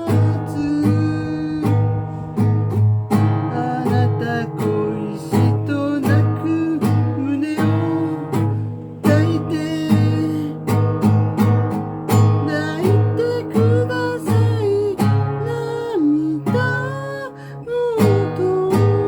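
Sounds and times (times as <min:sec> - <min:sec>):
song with guitar and bass beat: 0:00.0 - 0:19.0.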